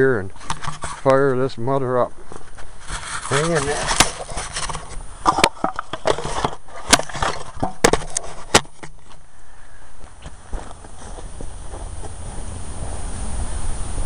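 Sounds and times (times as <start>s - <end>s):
scraping and shuffling: 0.0s - 12.2s.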